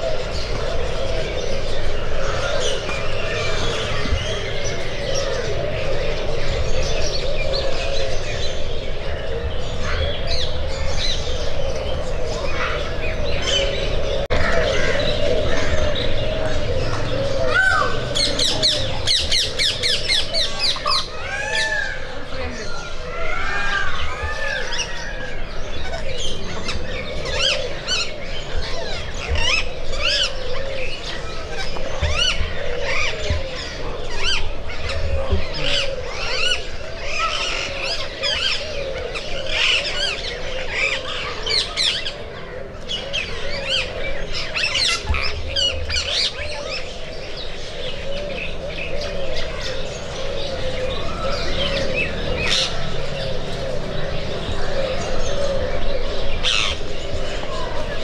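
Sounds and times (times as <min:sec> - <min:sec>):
chorus of birds chirping: 0:00.0 - 0:58.0.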